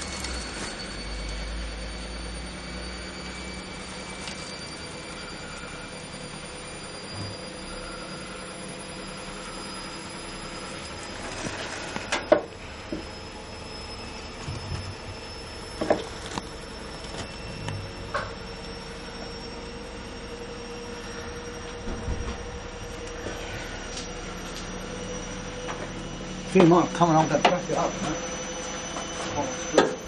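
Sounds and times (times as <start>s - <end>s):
faint high whine: 0.0s - 30.0s
steady hum: 0.0s - 30.0s.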